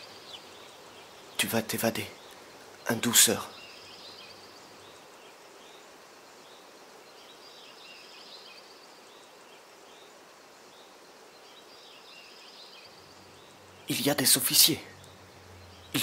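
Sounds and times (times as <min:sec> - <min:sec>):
faint background hiss: 0:00.0 - 0:16.0
small birds chirping: 0:00.0 - 0:16.0.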